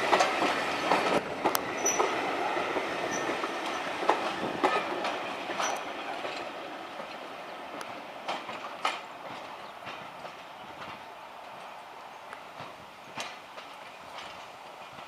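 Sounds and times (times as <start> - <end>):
train rumble: 0.0 - 15.0
wheels clacking over rail joints: 0.0 - 15.0.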